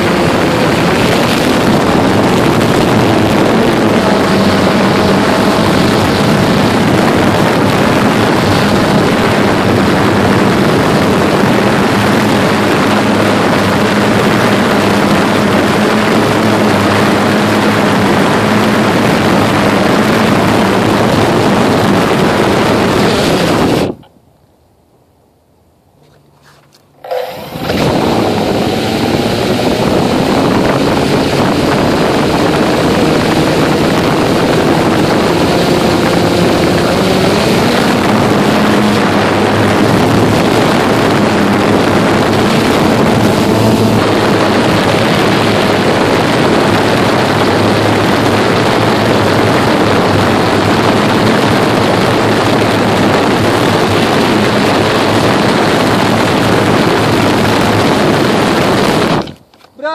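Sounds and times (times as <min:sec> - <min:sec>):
quadcopter motors and propellers: 0:00.0 - 0:24.1, 0:26.1 - 0:59.9.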